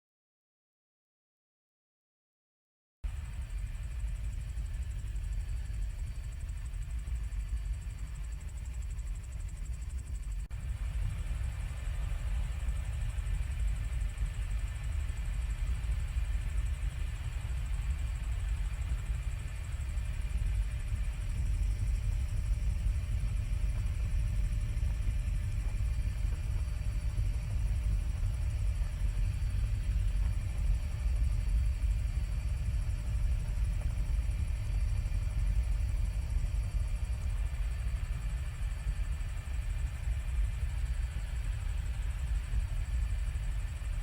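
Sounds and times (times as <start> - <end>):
faint whining tones: 3.1 - 44.0
helicopter cabin rumble: 3.1 - 44.0.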